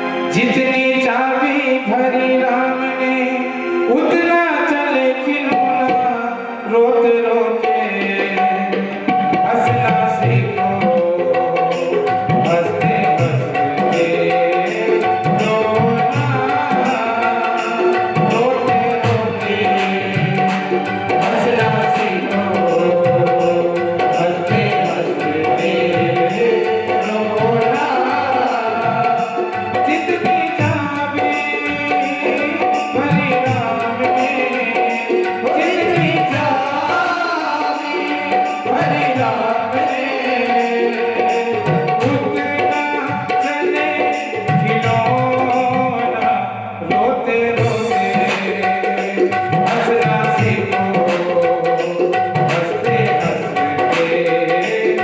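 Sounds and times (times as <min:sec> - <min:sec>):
devotional music: 0:00.0 - 0:55.0
tabla drumming: 0:00.0 - 0:55.0.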